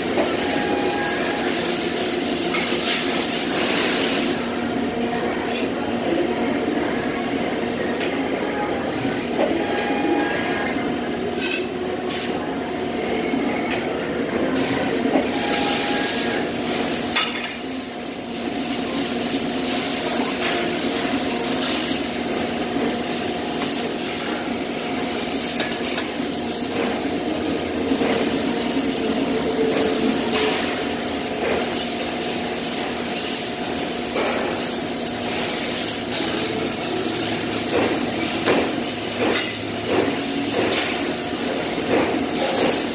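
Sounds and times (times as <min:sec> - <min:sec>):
workshop machine hum: 0:00.0 - 0:42.9.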